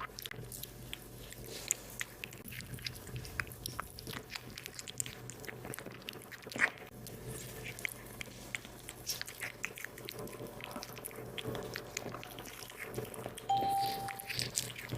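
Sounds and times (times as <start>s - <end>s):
cat chewing meat: 0.0s - 14.9s.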